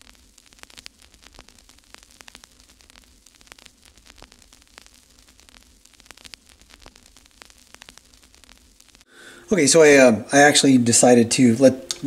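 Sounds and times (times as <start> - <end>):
sharp static clicks: 0.0 - 12.0
static hiss: 0.0 - 12.0.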